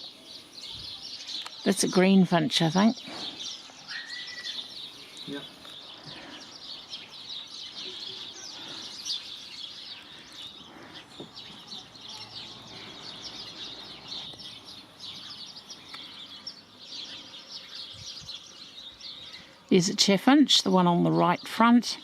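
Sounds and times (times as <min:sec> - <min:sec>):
songbirds twittering: 0:00.0 - 0:22.0.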